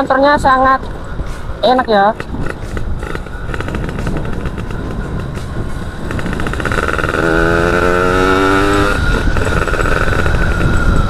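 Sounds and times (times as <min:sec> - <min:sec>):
two-stroke engine running: 0:02.1 - 0:11.0.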